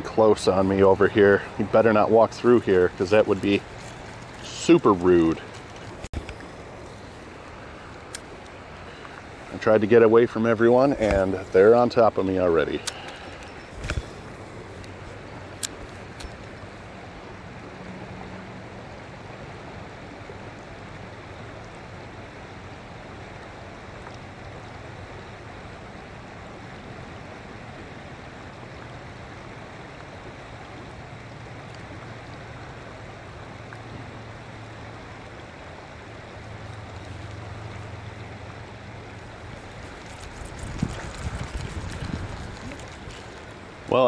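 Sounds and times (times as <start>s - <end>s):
river water over stones: 0.0s - 44.0s.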